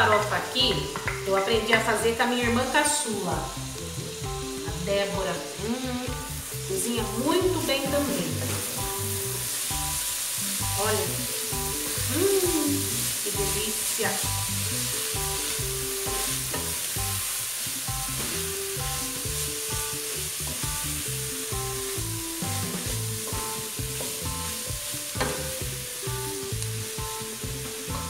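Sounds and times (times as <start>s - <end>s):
food sizzling in a pot: 0.0s - 28.0s
soft background music: 0.0s - 28.0s.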